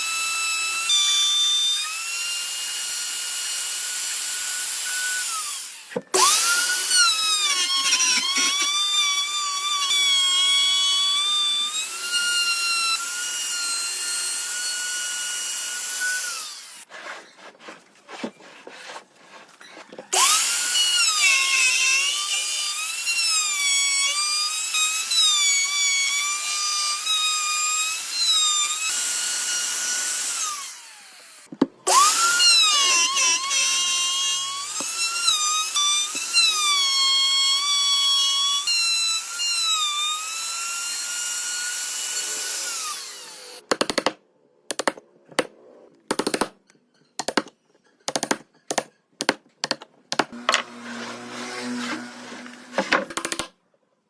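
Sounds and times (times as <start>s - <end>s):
power tool cutting wood: 0.0s - 16.9s, 20.1s - 43.7s, 50.2s - 53.5s.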